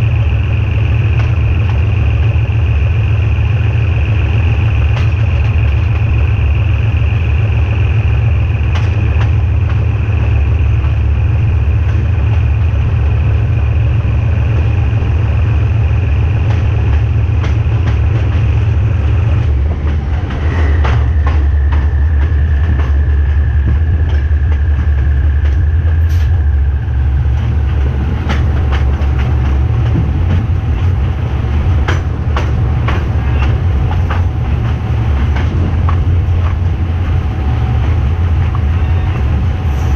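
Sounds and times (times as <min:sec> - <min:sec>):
wheels clicking over rail joints: 0:00.0 - 0:39.6
high steady whine: 0:00.0 - 0:39.9
locomotive engine drone: 0:00.0 - 0:39.9.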